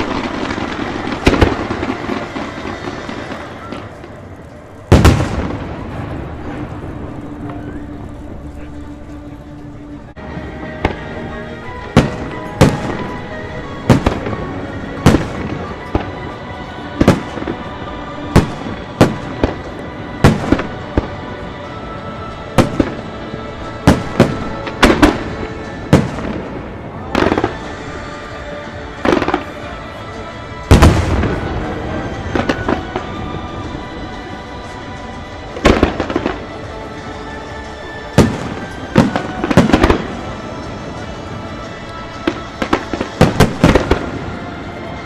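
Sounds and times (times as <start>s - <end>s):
fireworks bangs: 0.0s - 8.8s, 10.3s - 45.0s.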